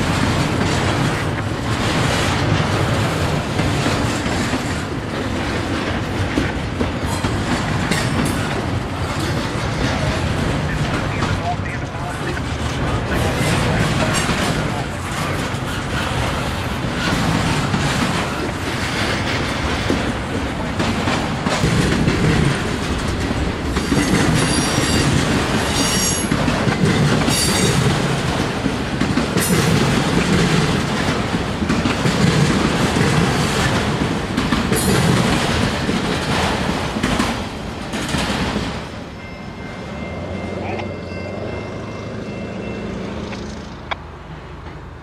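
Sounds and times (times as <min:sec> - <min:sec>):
wheels clacking over rail joints: 0:00.0 - 0:44.9.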